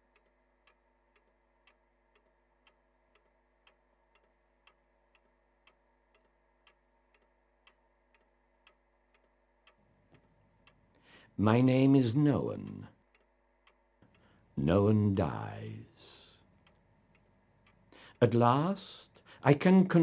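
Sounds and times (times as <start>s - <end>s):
clock ticking: 0.0s - 20.0s.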